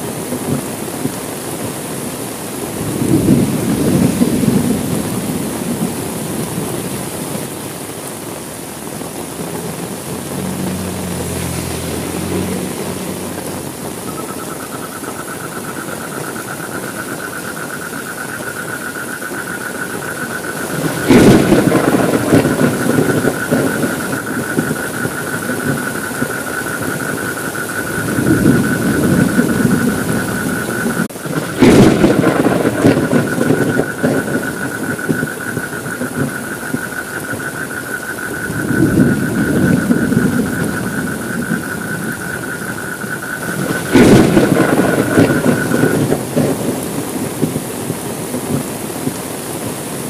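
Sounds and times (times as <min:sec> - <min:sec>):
thunder cracking and rumbling: 0:00.0 - 0:07.6, 0:08.9 - 0:50.0
heavy rain: 0:00.0 - 0:50.0.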